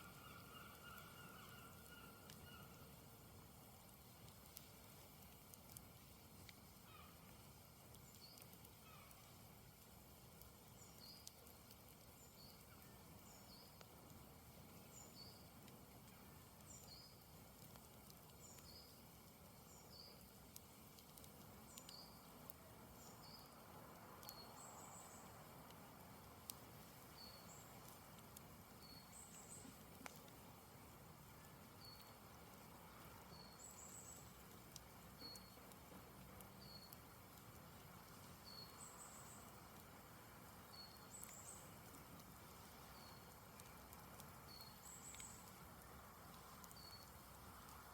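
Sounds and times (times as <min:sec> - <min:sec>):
campfire crackle: 0:00.0 - 0:47.9.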